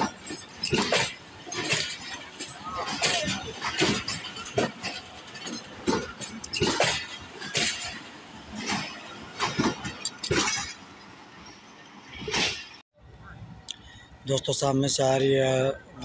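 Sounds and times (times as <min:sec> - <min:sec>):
train wheels clanking over rail joints: 0:00.0 - 0:12.8
moving train rumble: 0:00.0 - 0:16.0.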